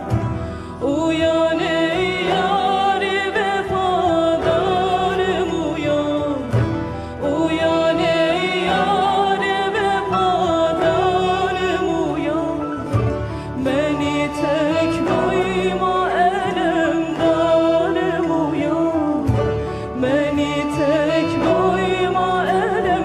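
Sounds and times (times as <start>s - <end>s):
low musical accompaniment: 0.0s - 23.0s.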